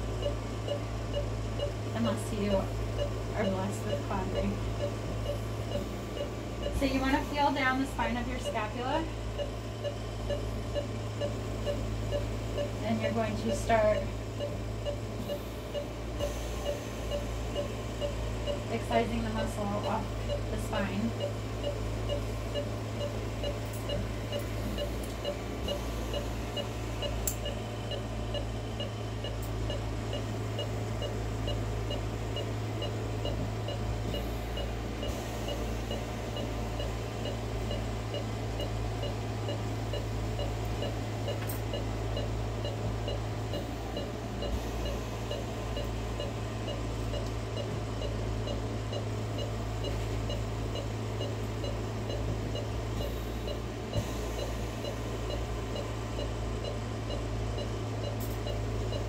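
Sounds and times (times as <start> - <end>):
low equipment hum: 0.0 - 59.0
patient monitor beeping: 0.0 - 59.0.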